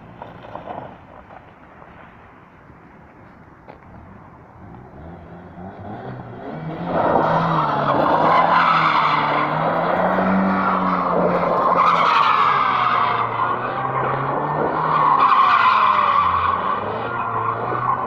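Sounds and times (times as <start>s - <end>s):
car engine under load: 0.0s - 18.0s
car tyres squealing: 0.0s - 18.0s.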